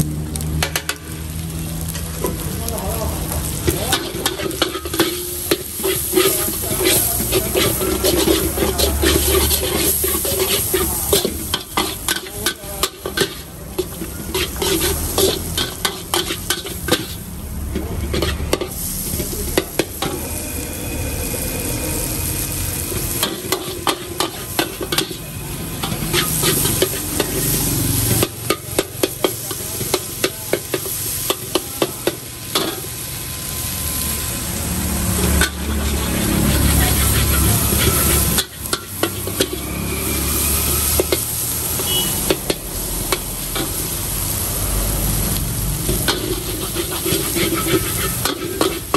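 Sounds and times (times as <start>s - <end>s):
frying sizzle: 0.0s - 48.9s
metal ladle scraping a wok: 3.4s - 34.0s, 35.0s - 44.1s, 45.8s - 48.9s.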